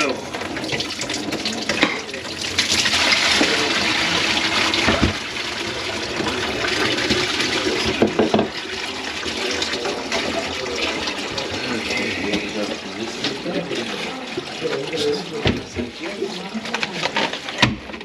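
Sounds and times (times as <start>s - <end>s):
water running and splashing in sink: 0.0s - 18.0s.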